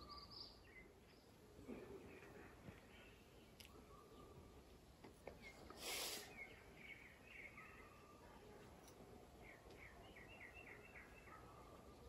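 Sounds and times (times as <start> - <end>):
birds chirping: 0.0 - 12.0
low steady hiss: 0.0 - 12.0.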